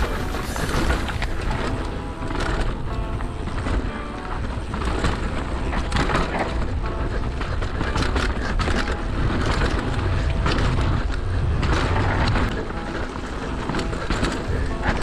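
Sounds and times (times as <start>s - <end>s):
bike clattering over stones: 0.0s - 15.0s
tyres crunching on gravel: 0.0s - 15.0s
wind rumbling on microphone: 0.0s - 15.0s.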